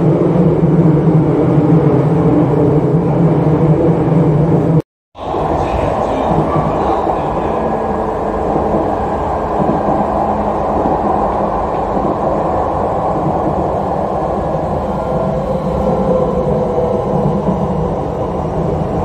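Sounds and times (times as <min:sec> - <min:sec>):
faint hum: 0:00.0 - 0:19.0
train wheels rumbling: 0:00.0 - 0:19.0.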